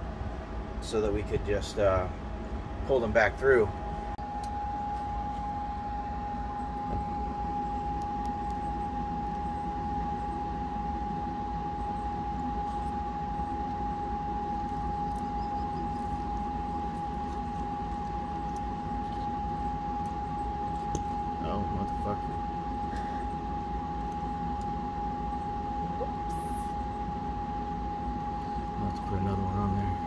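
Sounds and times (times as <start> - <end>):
background hum: 0.0 - 30.0
constant high tone: 2.8 - 30.0.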